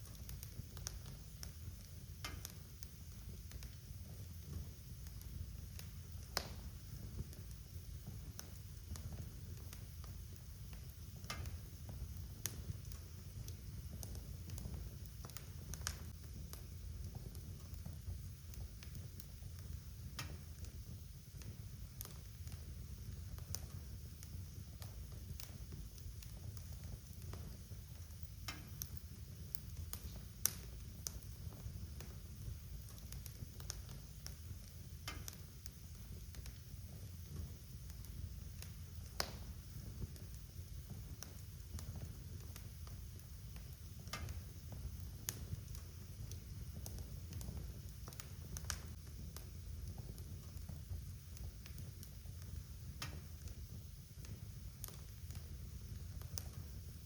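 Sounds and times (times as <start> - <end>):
low rumble of flames: 0.0 - 57.0
wood fire crackling and popping: 0.0 - 57.0.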